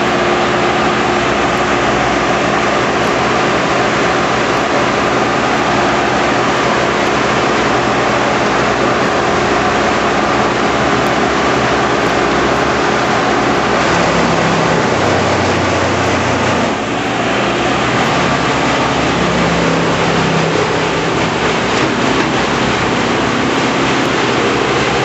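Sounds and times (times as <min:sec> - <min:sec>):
constant rushing noise: 0:00.0 - 0:25.0
large machinery engine running: 0:00.0 - 0:25.0.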